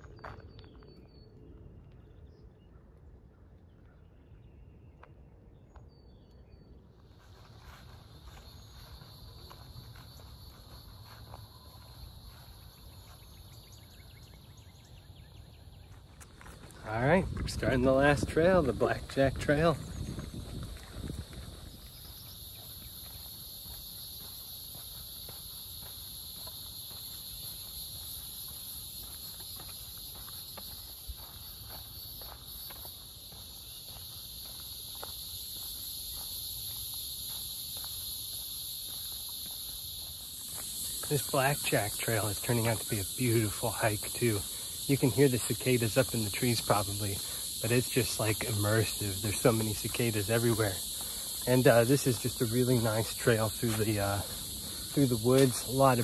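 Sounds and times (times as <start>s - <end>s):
cicadas droning: 0.0s - 1.2s, 4.0s - 56.0s
footsteps on dirt and leaves: 7.0s - 56.0s.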